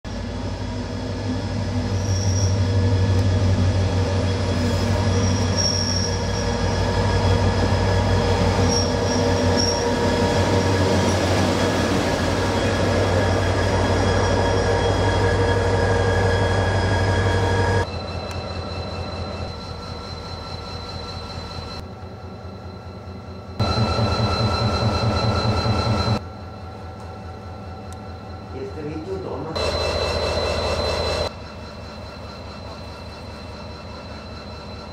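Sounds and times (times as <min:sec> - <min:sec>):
diesel train engine drone: 0:00.1 - 0:34.9
high-pitched wheel squeals: 0:01.9 - 0:03.0, 0:03.8 - 0:28.6, 0:29.6 - 0:34.9.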